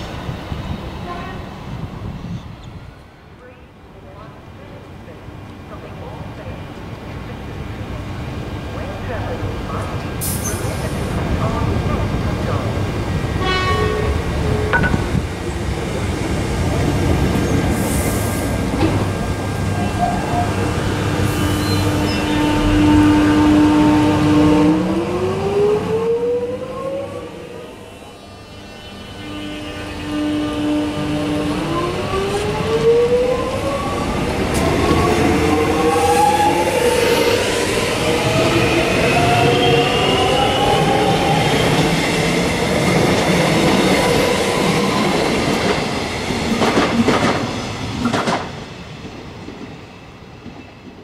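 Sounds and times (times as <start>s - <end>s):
wheels rumbling on rail: 4.2s - 26.1s, 27.7s - 51.0s.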